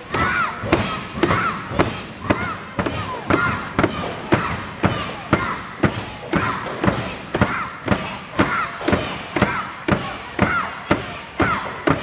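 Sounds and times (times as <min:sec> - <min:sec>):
heavy thumps in echoing hall: 0:00.0 - 0:12.0.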